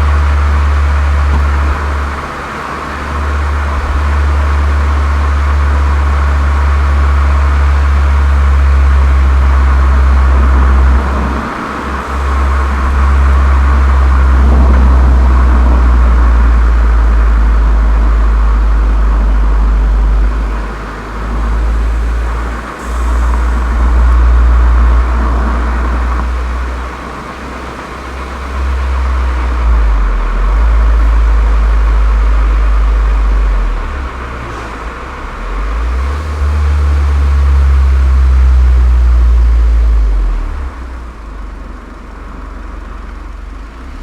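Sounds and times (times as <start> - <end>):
car exhaust drone: 0.0 - 44.0.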